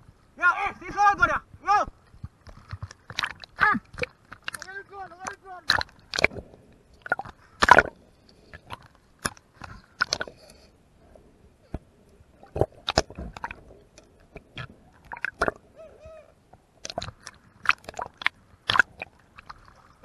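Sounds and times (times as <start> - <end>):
underwater clicks and crackles: 1.9 - 15.7, 16.5 - 20.0.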